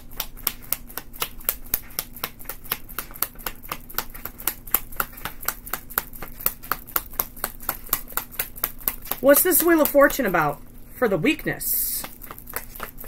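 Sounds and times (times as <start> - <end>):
cards being shuffled: 0.1 - 10.6, 11.8 - 13.0.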